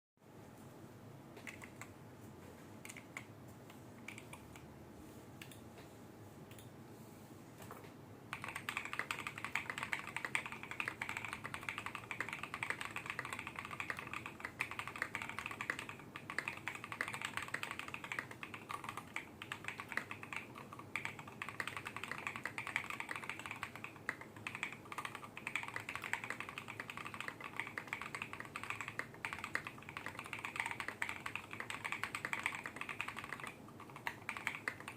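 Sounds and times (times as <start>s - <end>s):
mechanical keyboard typing: 1.4s - 1.9s, 2.8s - 3.3s, 4.0s - 4.6s, 8.3s - 34.9s.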